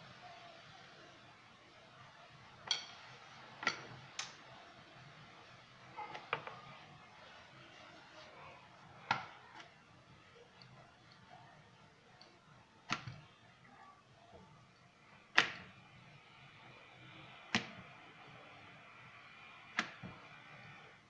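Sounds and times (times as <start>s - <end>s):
rolling pin rolling dough: 2.6s - 21.0s.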